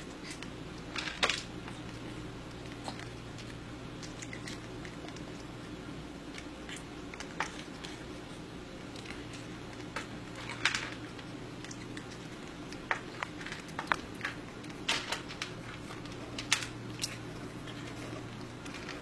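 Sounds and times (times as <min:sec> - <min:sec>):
kitten eating crunchy food: 0:00.0 - 0:19.0.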